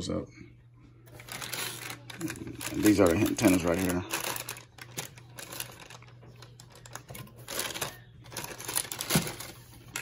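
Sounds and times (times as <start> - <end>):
plastic bags rustling: 1.1 - 10.0.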